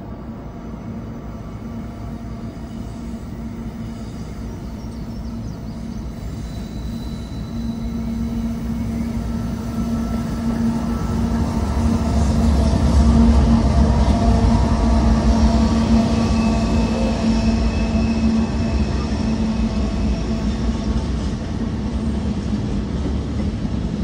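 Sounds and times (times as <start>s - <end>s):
diesel locomotive engines rumbling: 0.0s - 24.0s.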